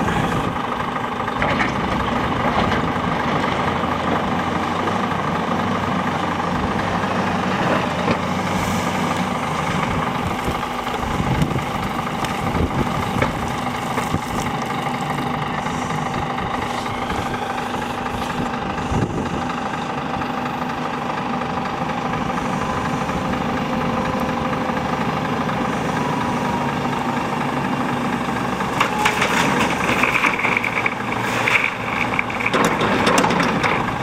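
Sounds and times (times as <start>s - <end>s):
diesel engines running: 0.0s - 34.0s.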